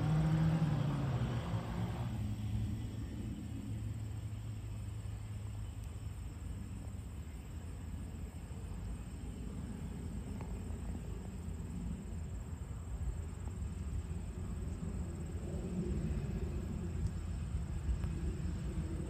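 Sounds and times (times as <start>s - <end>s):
turboprop aircraft taxiing: 0.0s - 19.0s.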